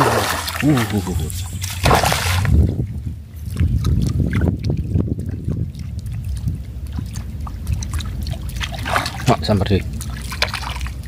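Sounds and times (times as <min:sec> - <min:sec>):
fish splashing at water surface: 0:00.0 - 0:11.0
steady low rumble: 0:00.0 - 0:11.0.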